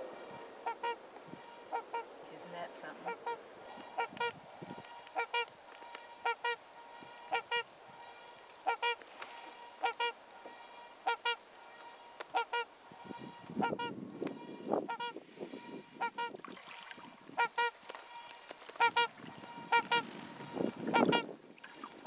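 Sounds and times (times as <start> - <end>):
swans honking: 0.0 - 21.4.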